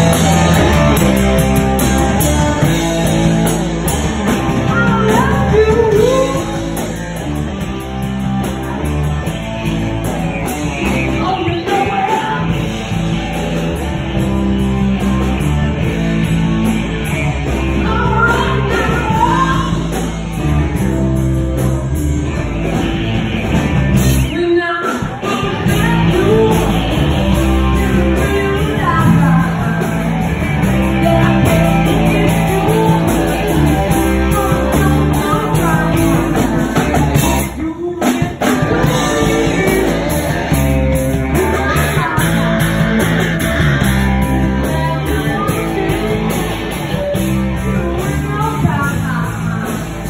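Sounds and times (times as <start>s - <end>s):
person singing: 0.0s - 12.8s, 17.0s - 20.9s, 23.9s - 50.0s
live rock band playing: 0.0s - 50.0s.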